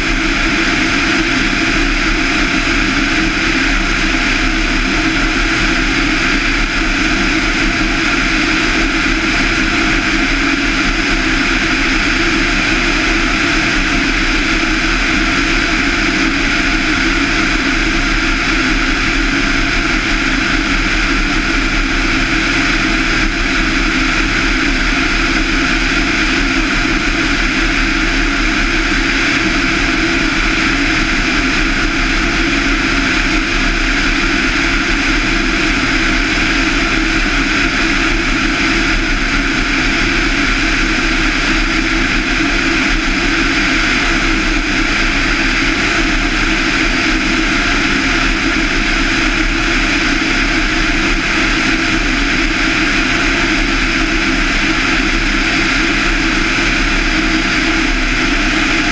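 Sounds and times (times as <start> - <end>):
aircraft engine and propeller droning: 0.0 - 58.9.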